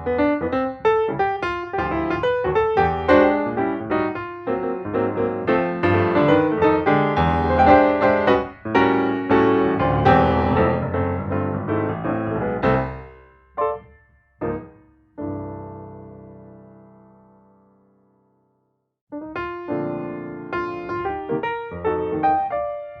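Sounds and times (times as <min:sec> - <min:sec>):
piano music: 0:00.0 - 0:18.4, 0:19.1 - 0:23.0.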